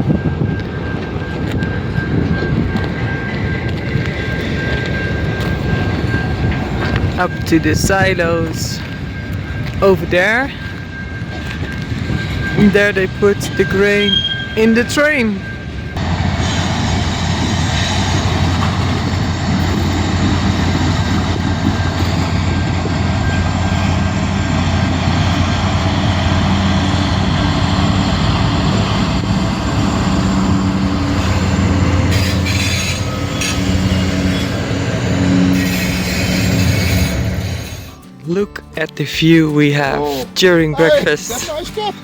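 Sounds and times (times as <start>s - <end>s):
freight wagons rolling: 0.0s - 16.1s, 17.3s - 42.0s
locomotive engine drone: 0.0s - 39.2s.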